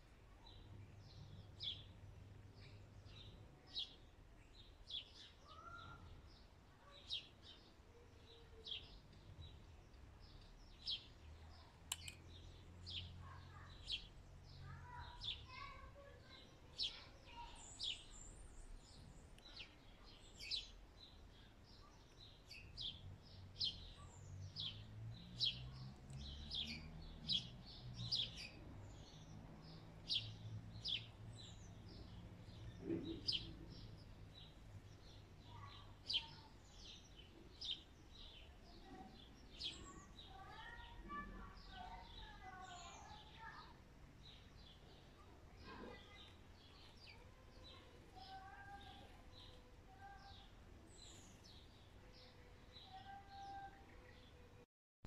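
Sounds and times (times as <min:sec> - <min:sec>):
small birds chirping: 0:00.0 - 0:54.7.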